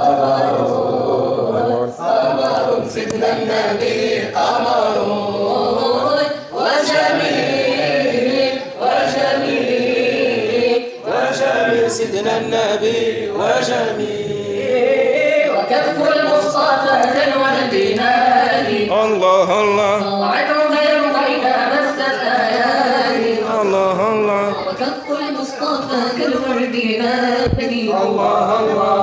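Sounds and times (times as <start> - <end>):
voices chanting unaccompanied: 0.0 - 29.0.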